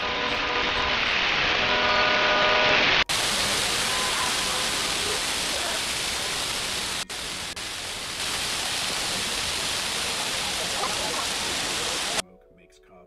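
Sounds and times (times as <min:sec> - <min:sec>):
city traffic noise: 0:00.0 - 0:12.2.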